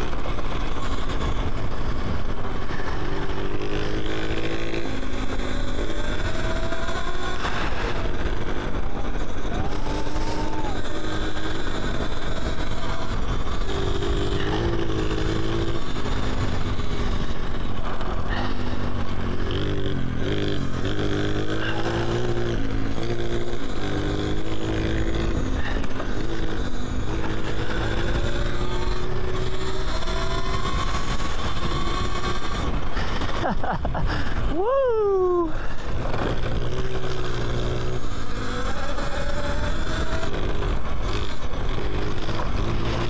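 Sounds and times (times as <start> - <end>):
electric dirt bike motor whining: 0.0 - 43.0.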